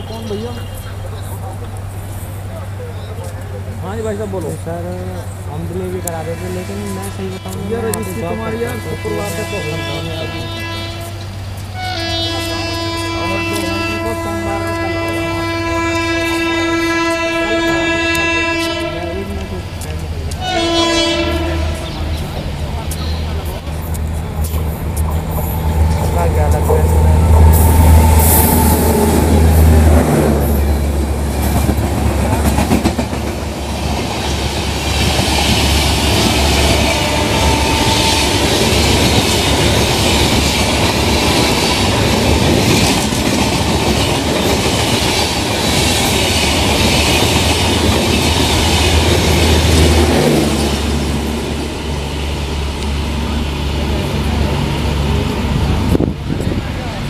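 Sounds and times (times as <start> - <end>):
electric locomotive hum: 0.0 - 57.0
steady rush of passing train: 0.0 - 57.0.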